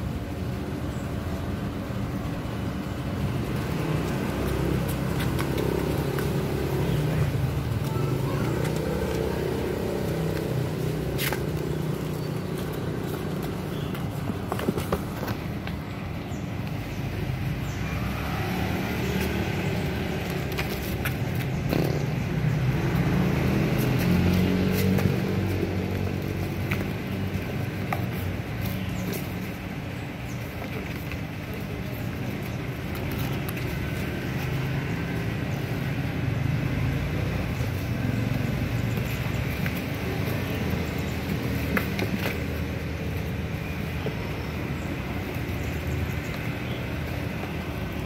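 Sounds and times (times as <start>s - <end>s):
vehicle engine hum: 0.0s - 48.0s.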